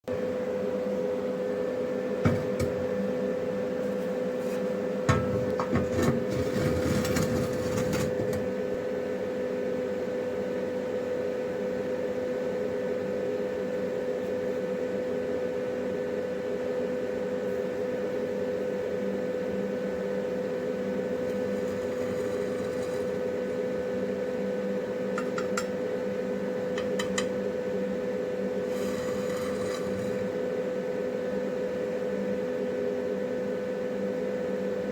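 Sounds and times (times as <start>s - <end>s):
welding machine electrical hum: 0.1s - 34.9s.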